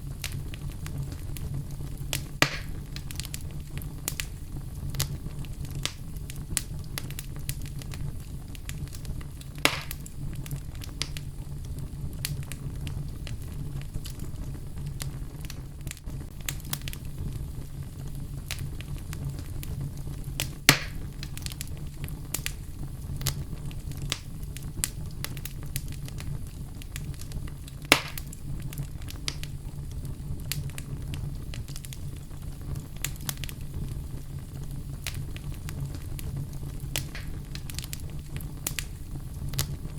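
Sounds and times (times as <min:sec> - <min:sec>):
loud fire pops: 0:00.0 - 0:39.9
wood fire crackling: 0:00.0 - 0:39.9.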